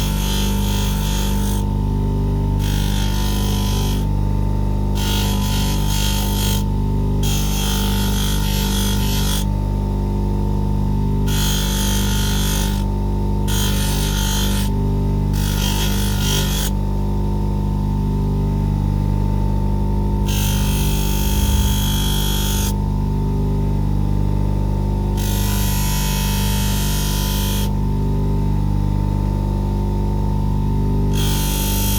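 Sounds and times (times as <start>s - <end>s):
grinding motor humming: 0.0s - 17.2s, 18.5s - 29.2s, 30.2s - 31.9s.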